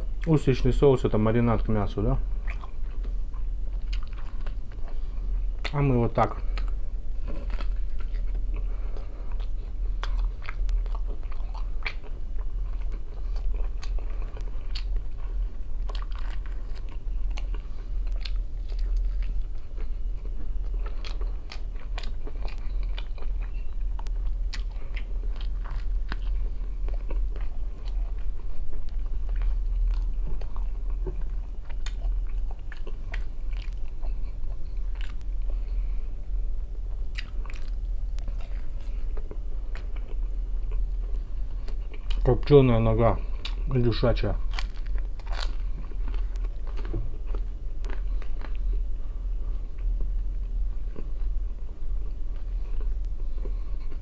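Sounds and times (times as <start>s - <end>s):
steady low hum: 0.0s - 54.0s
mouth chewing and smacking: 2.4s - 35.8s, 36.9s - 42.5s, 43.2s - 43.8s, 44.4s - 48.8s.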